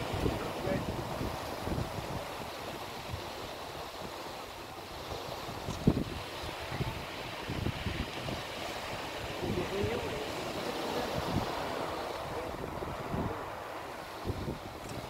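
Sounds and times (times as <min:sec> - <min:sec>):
sea surf hissing: 0:00.0 - 0:15.0
wind buffeting microphone: 0:00.0 - 0:15.0.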